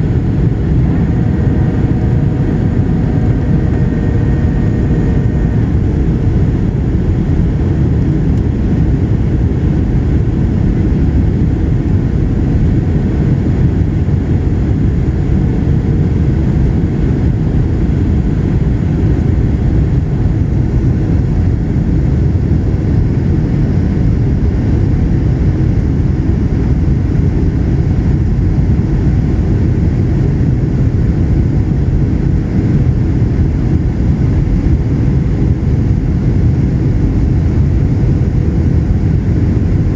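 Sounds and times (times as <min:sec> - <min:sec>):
airliner engines and airflow rumble: 0:00.0 - 0:39.9.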